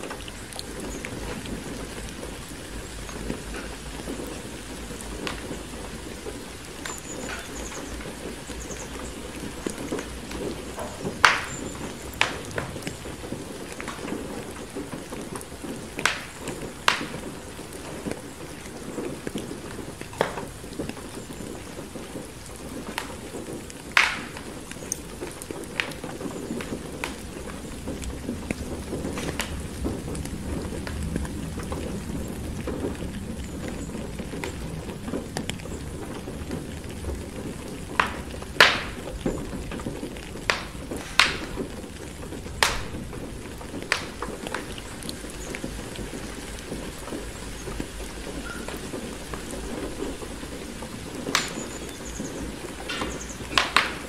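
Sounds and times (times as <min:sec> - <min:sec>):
rain against a window: 0:00.0 - 0:54.0
wood fire crackling: 0:00.0 - 0:54.0.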